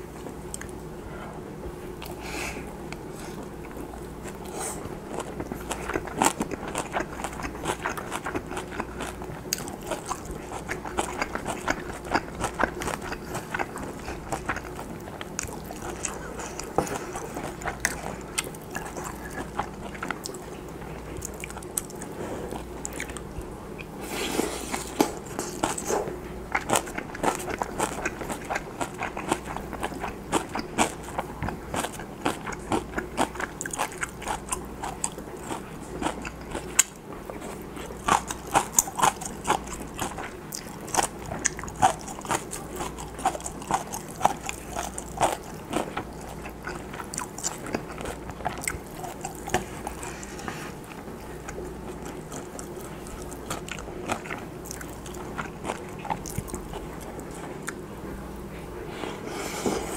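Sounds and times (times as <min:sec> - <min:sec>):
person chewing food: 0:00.2 - 0:00.8, 0:01.9 - 0:59.9.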